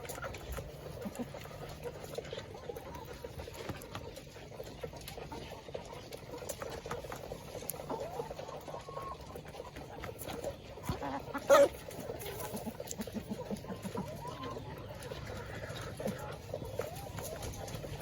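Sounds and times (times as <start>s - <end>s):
chickens pecking at feed: 0.0s - 18.0s.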